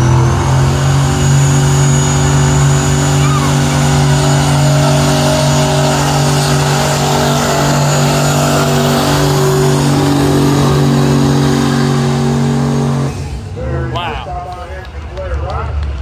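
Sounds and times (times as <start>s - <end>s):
truck engine droning at full load: 0.0s - 16.0s.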